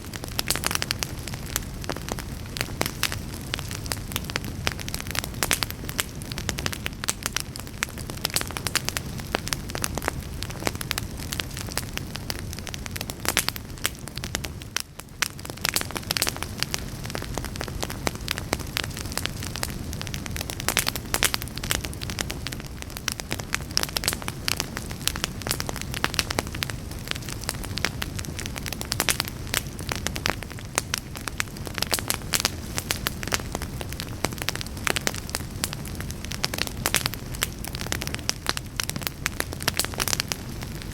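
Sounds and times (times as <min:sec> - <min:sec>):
fire crackling and popping: 0:00.0 - 0:40.9
low rush of flame: 0:00.0 - 0:40.9.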